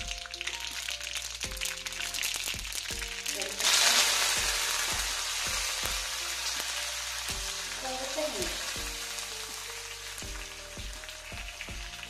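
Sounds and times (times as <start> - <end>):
background music with steady beat: 0.0 - 12.0
hot oil sizzling: 0.0 - 12.0.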